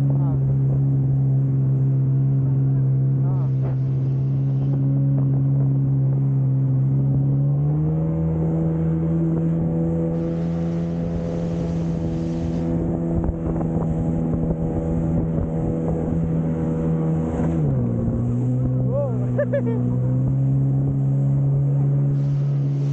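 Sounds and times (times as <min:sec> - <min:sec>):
jet ski engine droning: 0:00.0 - 0:22.9.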